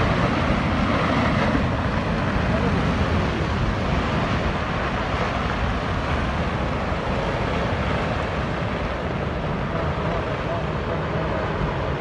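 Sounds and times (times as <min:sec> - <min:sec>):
river rushing: 0:00.0 - 0:12.0
wind rumbling on microphone: 0:00.0 - 0:12.0.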